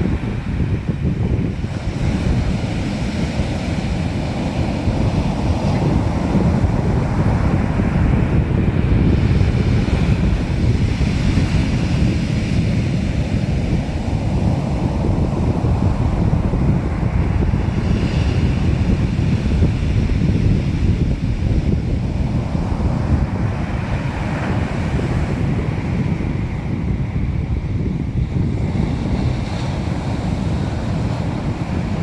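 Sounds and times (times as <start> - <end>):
waves breaking: 0.0 - 32.0
wind rumbling on microphone: 0.0 - 32.0.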